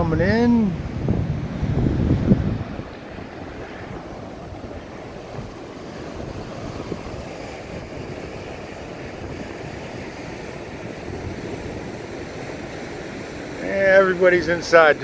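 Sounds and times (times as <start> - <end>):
surf washing in: 0.0 - 15.0
wind buffeting microphone: 0.0 - 15.0.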